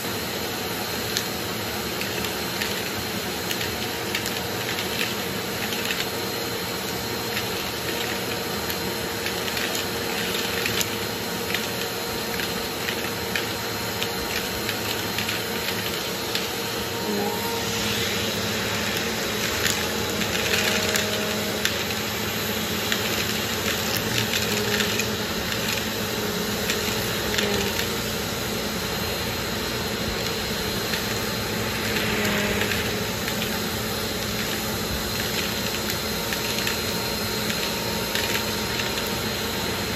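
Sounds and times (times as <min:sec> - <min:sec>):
vacuum cleaner whining: 0:00.0 - 0:39.9
candies rattling up a hose: 0:01.1 - 0:28.2, 0:30.0 - 0:39.9.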